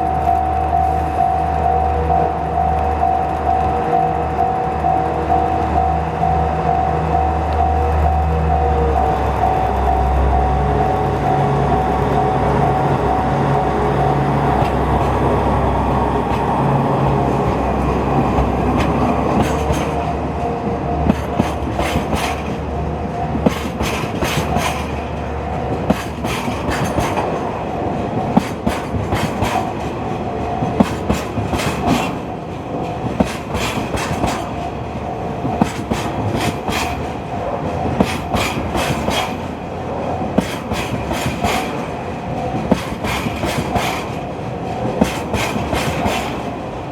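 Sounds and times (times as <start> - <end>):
diesel locomotives passing: 0.0 - 46.9
train wheels clacking over rail joints: 0.0 - 46.9.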